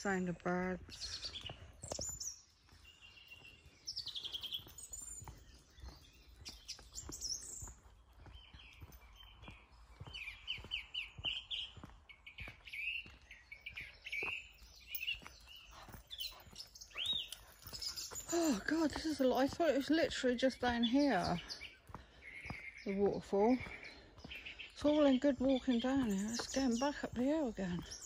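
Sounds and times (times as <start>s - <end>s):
footsteps: 0.0s - 28.0s
songbirds chirping and trilling: 0.0s - 28.0s.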